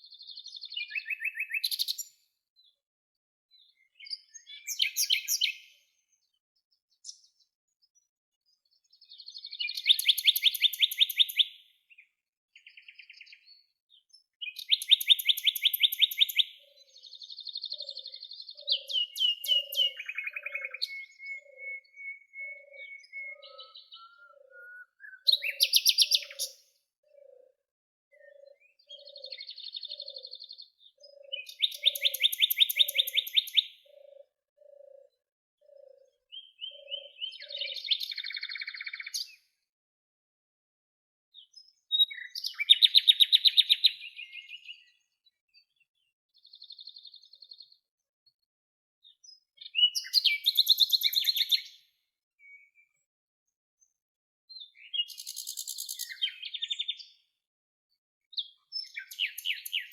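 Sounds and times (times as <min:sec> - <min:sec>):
songbirds trilled chirps: 0:00.0 - 0:39.8, 0:41.3 - 0:59.9.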